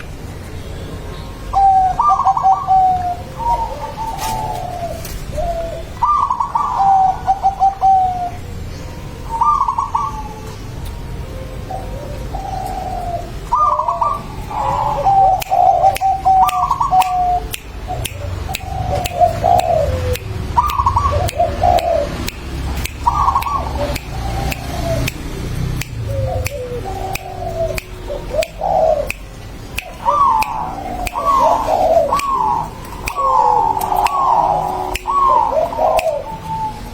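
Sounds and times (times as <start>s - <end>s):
bird cooing: 1.5s - 25.3s, 25.9s - 36.9s.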